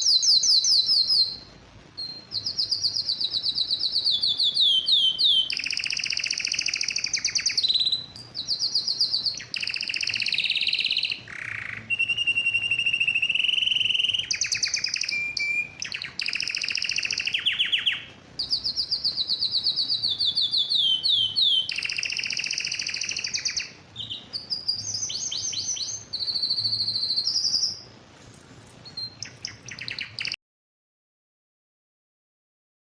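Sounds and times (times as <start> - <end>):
canary singing trills: 0.0 - 28.0, 28.7 - 30.4.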